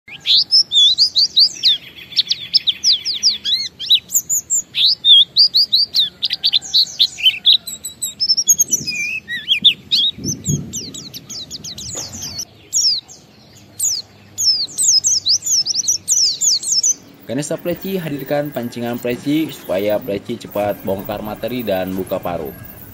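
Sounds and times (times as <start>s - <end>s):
bird singing rapid chirps and trills: 0.1s - 22.9s.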